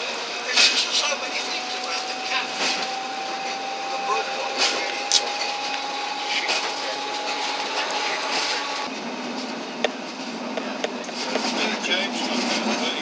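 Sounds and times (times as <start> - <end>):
tram motor whine: 0.0 - 13.0
tram rumble: 0.0 - 13.0.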